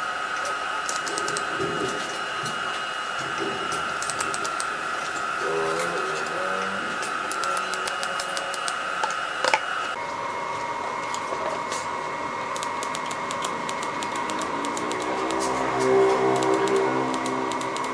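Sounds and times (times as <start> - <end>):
steady high whine: 0.0 - 17.9.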